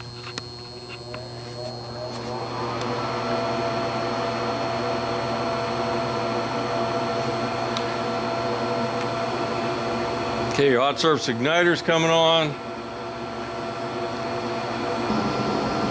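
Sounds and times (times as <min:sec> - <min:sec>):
furnace motor whine: 0:00.0 - 0:15.9.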